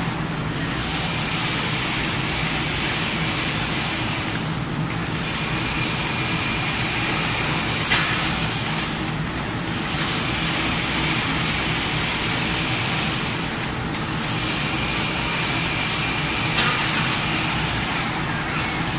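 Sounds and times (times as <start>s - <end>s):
factory machinery humming: 0.0s - 18.9s.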